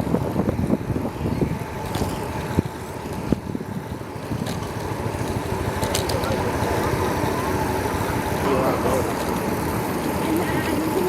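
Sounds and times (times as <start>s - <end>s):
rumbling road noise: 0.0s - 11.0s
wind buffeting microphone: 0.0s - 11.0s.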